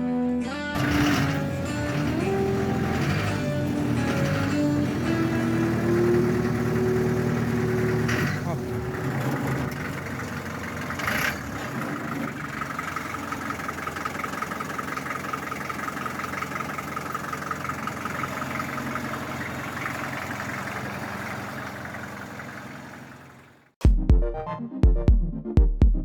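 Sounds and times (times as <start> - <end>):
engine idling: 0.8 - 23.8.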